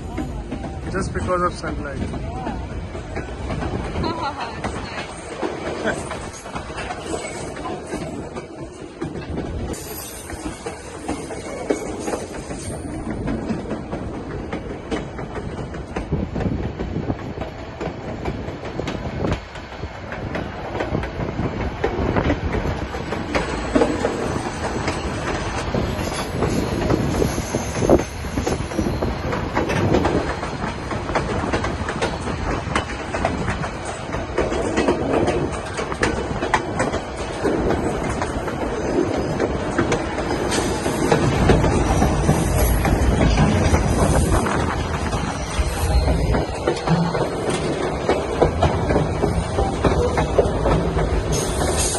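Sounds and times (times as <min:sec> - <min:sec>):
train rumble: 0:00.0 - 0:51.9
wheels clacking over rail joints: 0:00.0 - 0:51.9.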